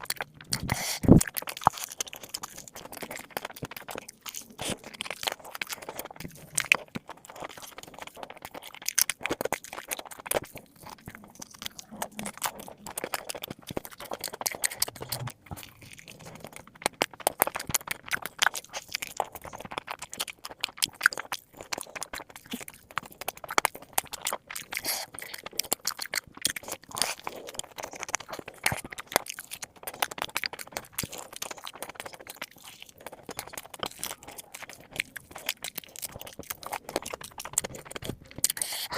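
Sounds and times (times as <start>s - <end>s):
crunching and chewing fried chicken: 0.0s - 38.9s.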